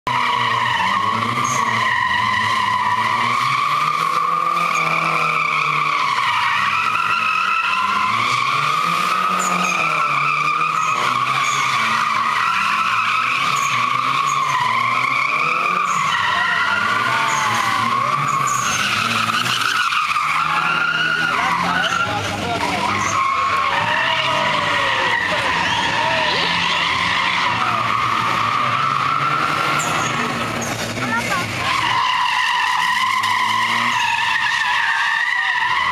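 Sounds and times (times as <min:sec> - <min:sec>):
car engines revving: 0:00.0 - 0:35.9
tyres squealing: 0:00.2 - 0:35.9.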